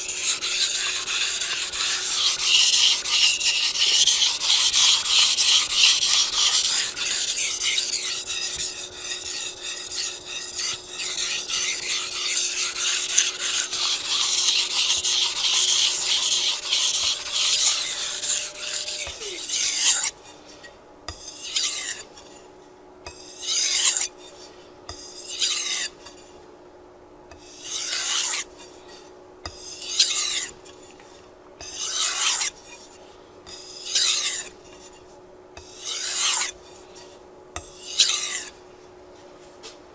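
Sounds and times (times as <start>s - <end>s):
knife scraping on whetstone: 0.0s - 22.5s, 23.1s - 26.4s, 27.3s - 38.6s.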